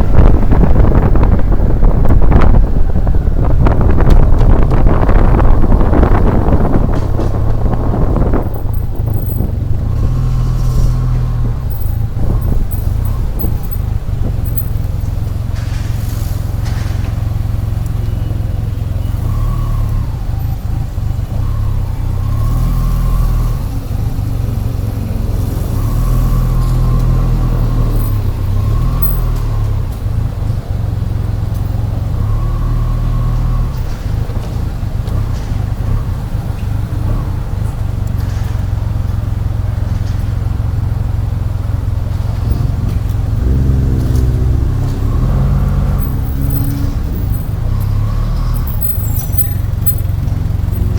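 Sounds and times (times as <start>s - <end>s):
wind noise on microphone: 0.0s - 41.4s.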